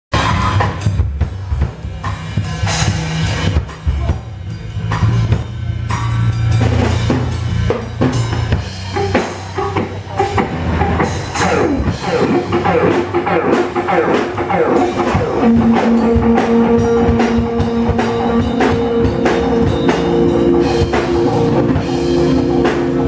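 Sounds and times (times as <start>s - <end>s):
band music: 0.1s - 23.0s.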